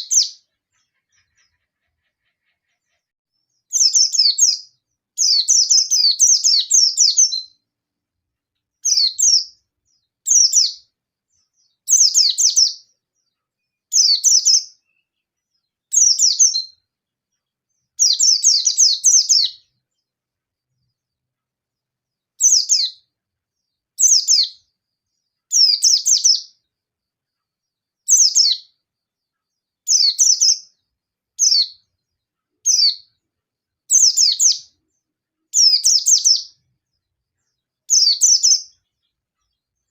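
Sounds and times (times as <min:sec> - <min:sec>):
bird singing rapid high chirps: 0:00.0 - 0:07.7, 0:08.7 - 0:20.0, 0:22.4 - 0:26.7, 0:28.0 - 0:33.2, 0:33.8 - 0:39.9.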